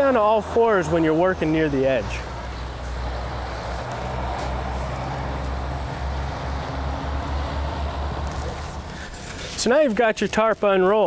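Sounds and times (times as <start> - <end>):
truck driving past: 0.0 - 9.6.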